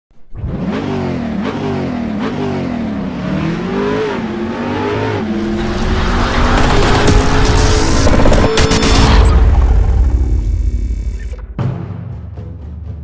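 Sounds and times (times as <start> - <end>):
car engine revving: 0.3 - 11.1.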